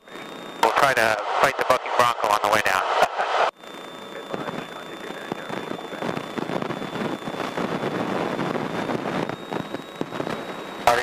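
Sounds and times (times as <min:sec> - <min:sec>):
plane engine and propeller noise: 0:00.0 - 0:11.0
thin high whine: 0:00.0 - 0:11.0.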